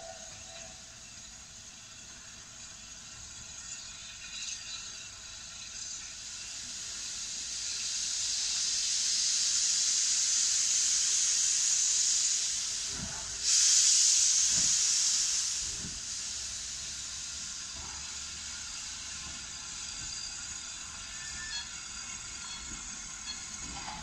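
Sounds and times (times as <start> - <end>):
low steam chuffs: 0.0 - 24.0
steam locomotive hissing: 0.0 - 24.0.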